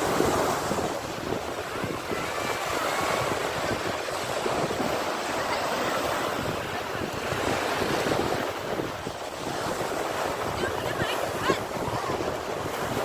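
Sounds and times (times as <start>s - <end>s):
sea waves breaking on shore: 0.0s - 13.0s
wind: 0.0s - 13.0s.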